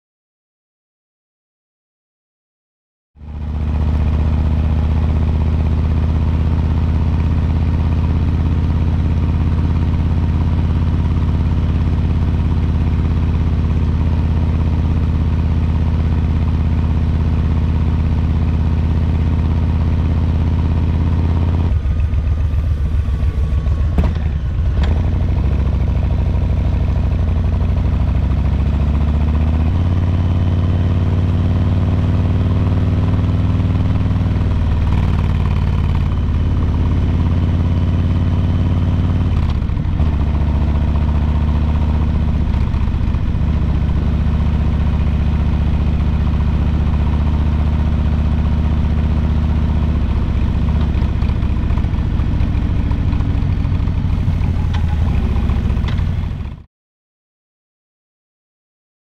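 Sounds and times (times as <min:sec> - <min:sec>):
motorcycle engine cruising: 0:03.2 - 0:56.7.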